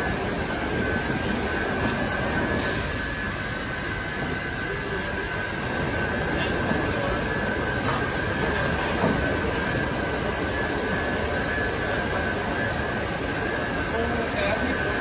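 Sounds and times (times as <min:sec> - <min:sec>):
machinery steady dense noise: 0:00.0 - 0:15.0.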